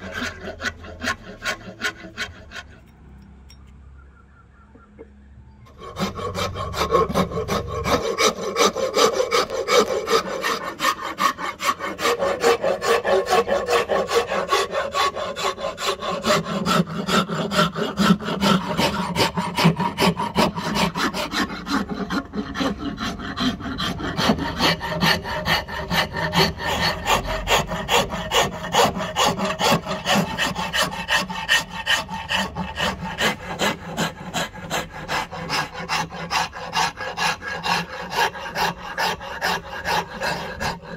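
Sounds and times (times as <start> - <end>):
rasp filing wood: 0.0 - 2.9, 5.7 - 40.9.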